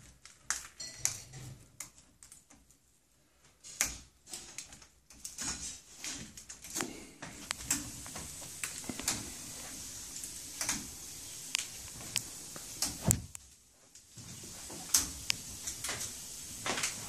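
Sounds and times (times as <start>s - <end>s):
parrot chewing branches: 0.0s - 17.0s.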